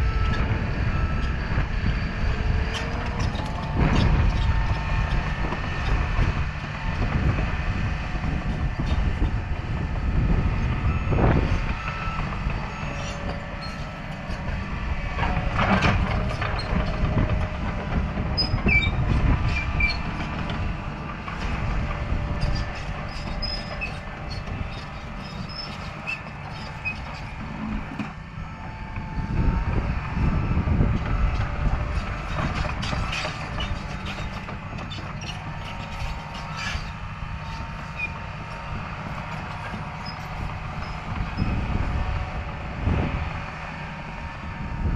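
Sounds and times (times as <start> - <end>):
steel tracks clattering and squeaking: 0.0 - 9.4, 10.2 - 28.2, 31.0 - 42.5
diesel engine running under load: 0.0 - 44.9.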